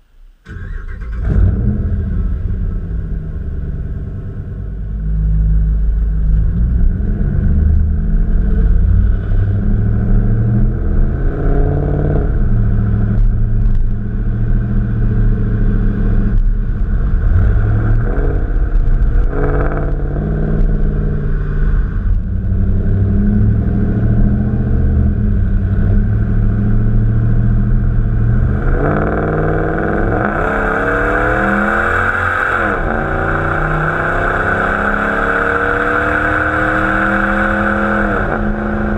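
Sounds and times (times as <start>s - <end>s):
engine running and revving: 0.5s - 38.9s.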